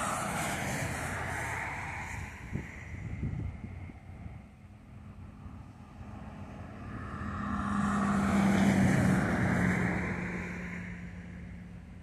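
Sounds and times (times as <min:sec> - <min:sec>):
engine passing by: 0:00.0 - 0:12.0.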